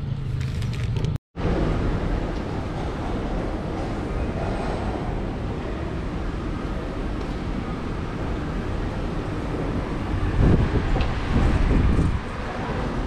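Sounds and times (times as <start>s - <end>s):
road traffic rumble: 0.0s - 13.0s
wind buffeting microphone: 1.6s - 13.0s.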